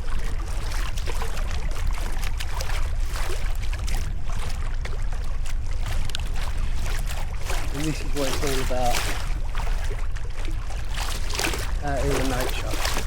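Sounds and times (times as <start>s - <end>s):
paddle splashing water: 0.0s - 13.0s.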